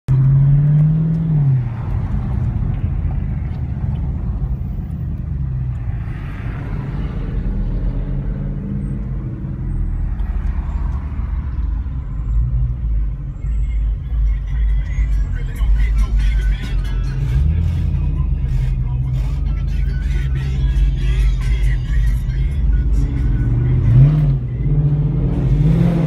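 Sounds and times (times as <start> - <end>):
deep engine exhaust rumble: 0.1 - 26.0.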